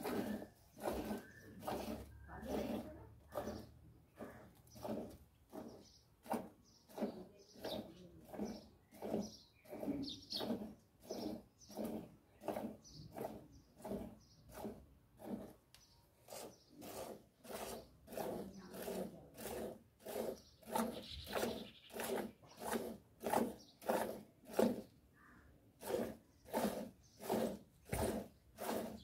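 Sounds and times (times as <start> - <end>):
milk squirting into a pail: 0.0 - 15.6, 16.3 - 29.0.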